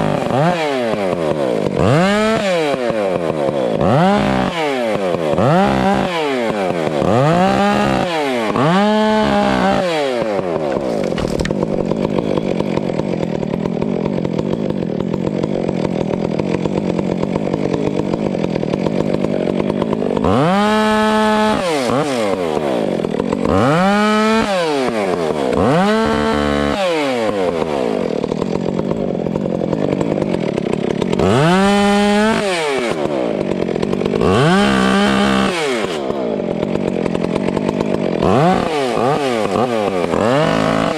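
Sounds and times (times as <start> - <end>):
chainsaw revving and cutting: 0.0 - 40.9.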